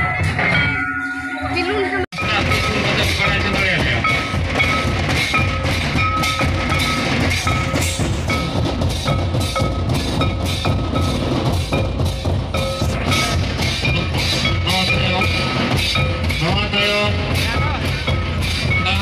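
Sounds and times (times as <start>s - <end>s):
dance drums beating fast: 2.1s - 19.0s.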